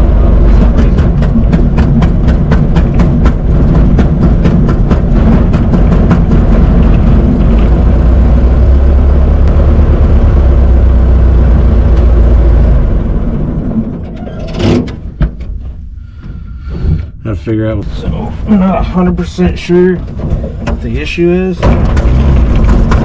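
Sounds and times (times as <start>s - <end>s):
car engine running: 0.0s - 16.0s, 16.6s - 23.0s.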